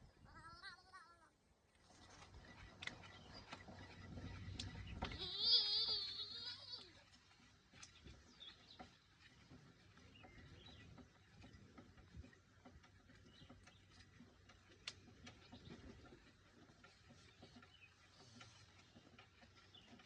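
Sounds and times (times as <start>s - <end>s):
faint clicks and ticks: 1.7s - 20.0s.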